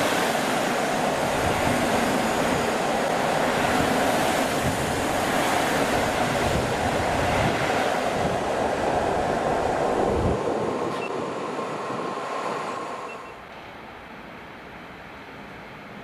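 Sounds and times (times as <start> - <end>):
train rolling past on rails: 0.0 - 16.0.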